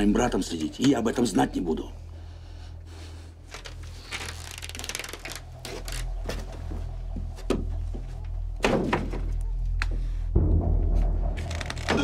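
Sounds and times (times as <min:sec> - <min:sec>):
low background drone: 0:00.0 - 0:12.0.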